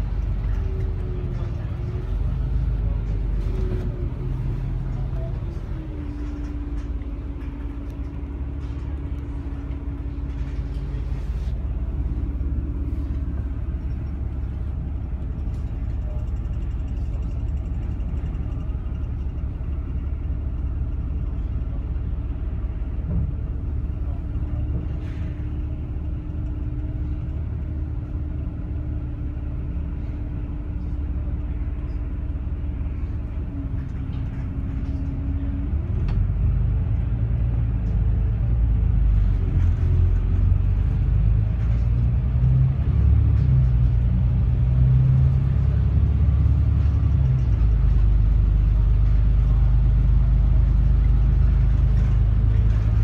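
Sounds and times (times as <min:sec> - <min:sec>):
bus rumble: 0:00.0 - 0:53.0.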